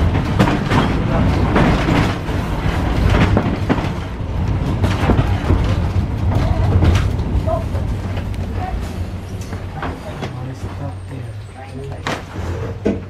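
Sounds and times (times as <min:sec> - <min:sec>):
tram rumbling on track: 0:00.0 - 0:13.0
wheels knocking over rail joints: 0:00.0 - 0:13.0.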